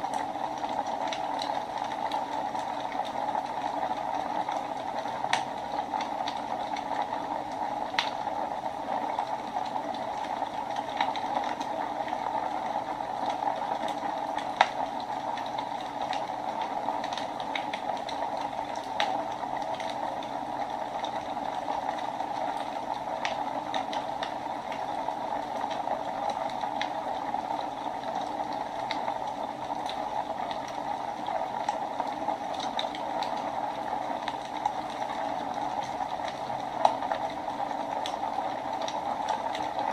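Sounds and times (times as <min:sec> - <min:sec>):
burning wood crackling and popping: 0:00.0 - 0:39.9.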